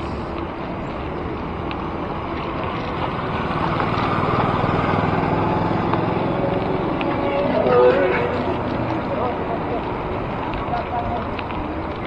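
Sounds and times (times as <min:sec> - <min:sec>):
motor vehicle engine running: 0:00.0 - 0:12.0
road noise rushing: 0:00.0 - 0:12.0.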